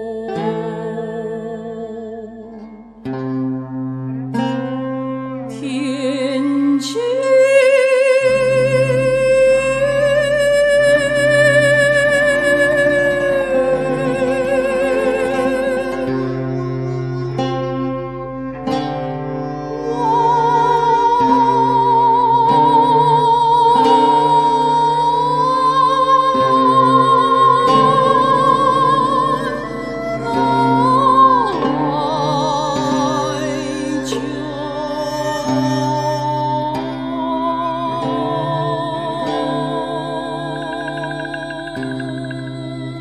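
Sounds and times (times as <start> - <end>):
plucked string notes: 0.0 - 43.0
slow melody with vibrato: 2.5 - 43.0.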